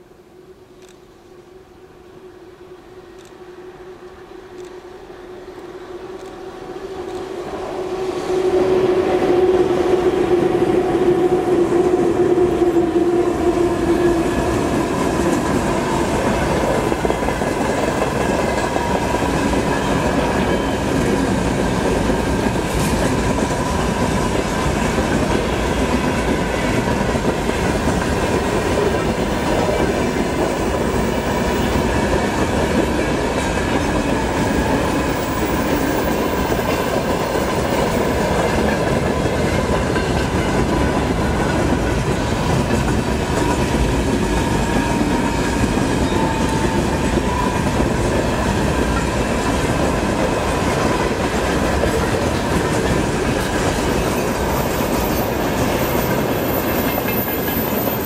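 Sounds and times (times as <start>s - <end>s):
train wheels clattering over rails: 10.8s - 58.0s.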